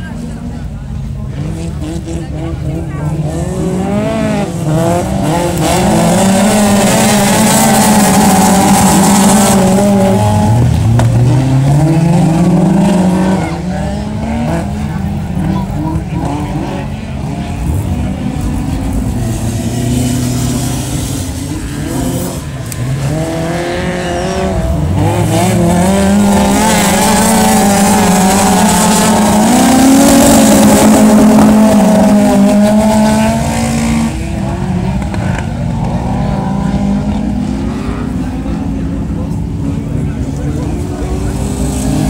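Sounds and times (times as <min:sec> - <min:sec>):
race car engines revving: 0:00.0 - 0:42.0.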